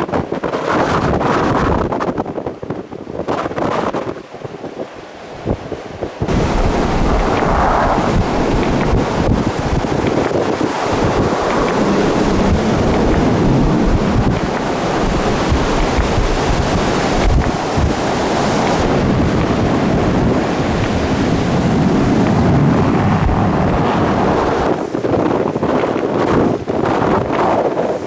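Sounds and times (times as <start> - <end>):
blizzard wind on microphone: 0.0 - 28.0.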